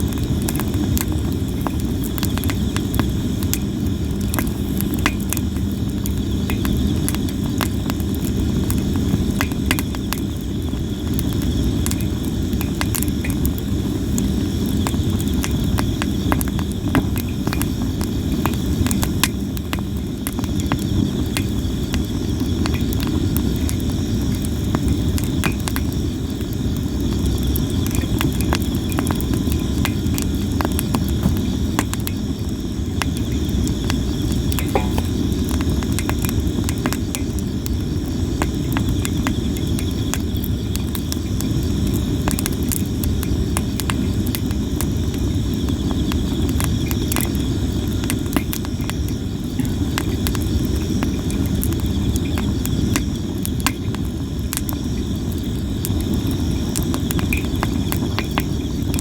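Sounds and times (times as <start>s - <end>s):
campfire crackling and popping: 0.0s - 59.0s
insects chirping: 0.0s - 59.0s.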